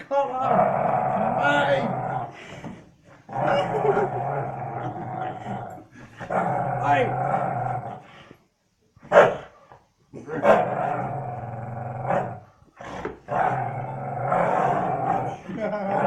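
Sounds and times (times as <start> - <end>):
dog play growling: 0.4 - 8.4, 10.4 - 16.0.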